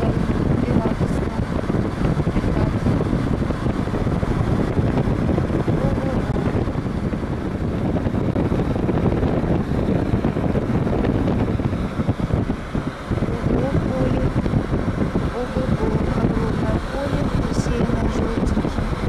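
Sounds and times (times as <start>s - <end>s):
car road and engine noise: 0.0s - 19.0s
wind buffeting microphone: 0.0s - 19.0s.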